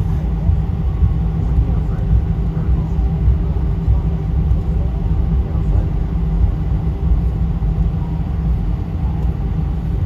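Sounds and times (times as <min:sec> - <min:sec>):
airliner cabin rumble: 0:00.0 - 0:10.0
murmur of passengers' voices: 0:00.0 - 0:10.0.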